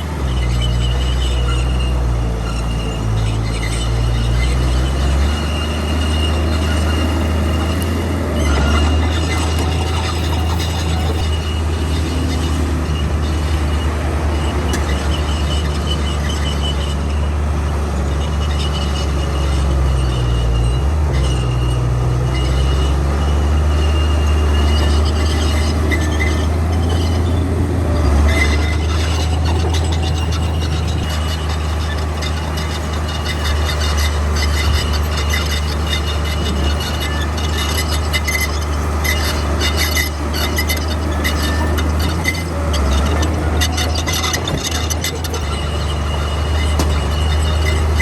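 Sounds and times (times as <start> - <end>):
bulldozer diesel engine running: 0.0 - 48.0
steel tracks squealing: 0.0 - 48.0.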